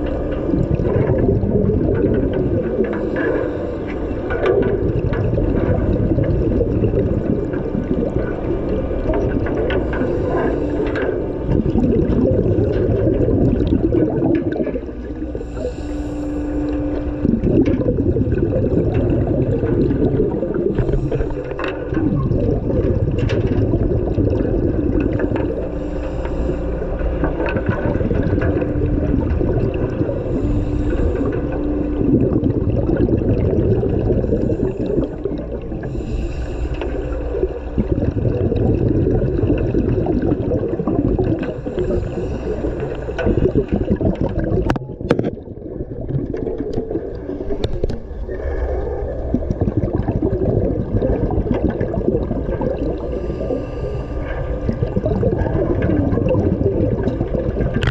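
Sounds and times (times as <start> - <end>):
diver's regulator breath: 0.0 - 45.9, 51.0 - 57.9
gurgling exhaled bubbles: 0.0 - 57.9
underwater rush of water: 0.0 - 57.9.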